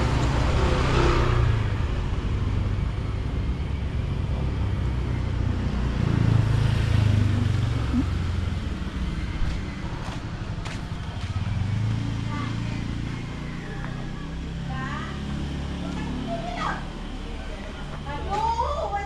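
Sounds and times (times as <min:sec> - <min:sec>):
scooter engine running: 0:00.0 - 0:18.4.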